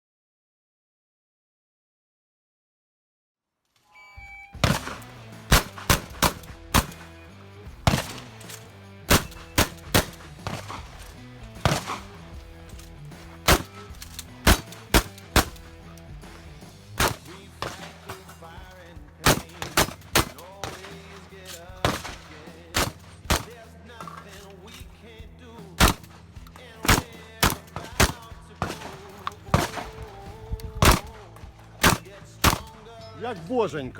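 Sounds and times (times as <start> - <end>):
background music with bass line: 4.5 - 33.9
shotgun shots: 4.6 - 24.8, 25.8 - 33.0.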